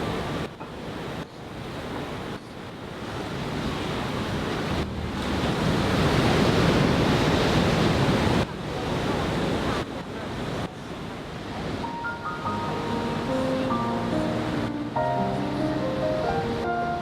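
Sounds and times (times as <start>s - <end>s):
sea surf washing onto beach: 0.0s - 17.0s.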